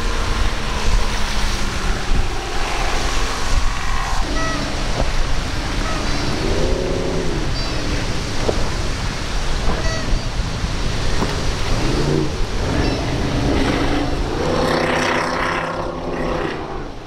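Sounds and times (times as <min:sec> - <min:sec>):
boat engines running hard: 0:00.0 - 0:17.0
surf rushing: 0:00.0 - 0:17.0
wind on microphone: 0:00.0 - 0:17.0.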